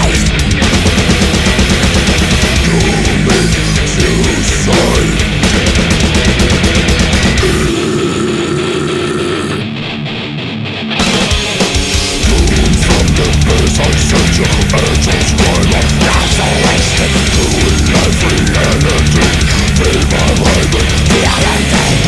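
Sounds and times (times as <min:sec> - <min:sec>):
drums and cymbals: 0:00.0 - 0:07.8, 0:11.0 - 0:22.0
distorted electric guitar: 0:00.0 - 0:22.0
heavy metal band: 0:00.0 - 0:22.0.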